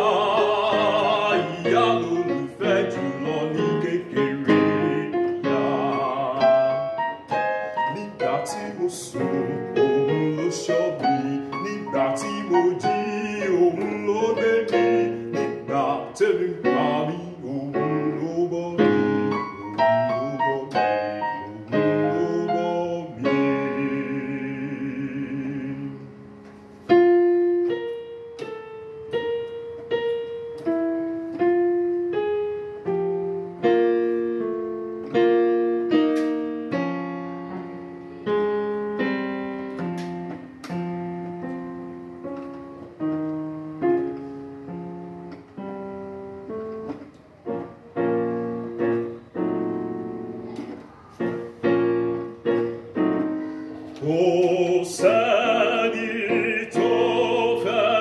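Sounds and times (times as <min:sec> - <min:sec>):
slow piano chords and melody: 0:00.0 - 0:58.0.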